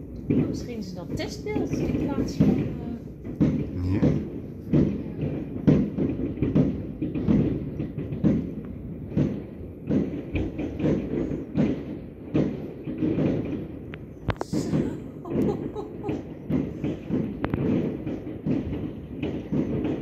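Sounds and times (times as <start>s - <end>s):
fireworks bangs and thuds: 0.0s - 20.0s.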